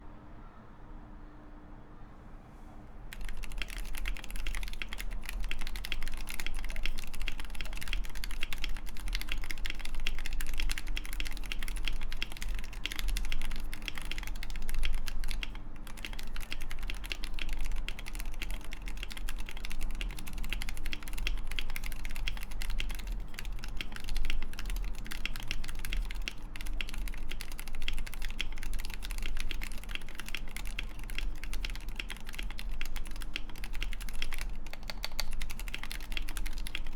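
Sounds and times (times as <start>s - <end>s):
fast typing on mechanical keyboard: 3.1s - 36.9s.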